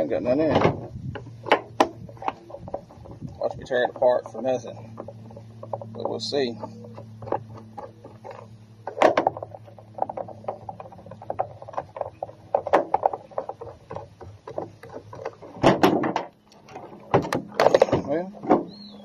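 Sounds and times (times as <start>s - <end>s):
clatter of tools and plastic case: 0.0s - 18.8s
low steady hum: 0.0s - 19.0s.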